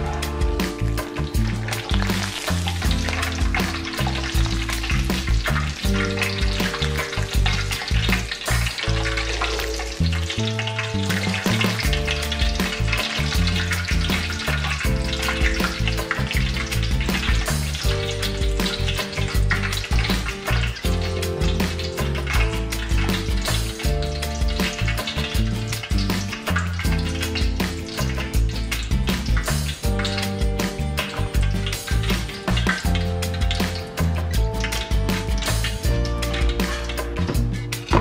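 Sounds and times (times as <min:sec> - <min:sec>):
garlic sizzling in hot oil: 0:00.0 - 0:38.0
soft background music with bass: 0:00.0 - 0:38.0.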